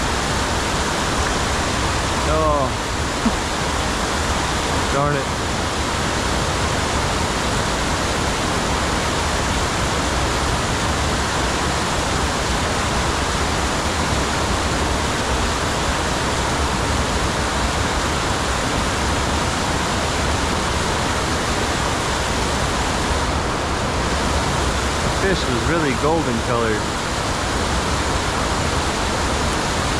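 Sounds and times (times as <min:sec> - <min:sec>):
creek water rushing: 0:00.0 - 0:29.9.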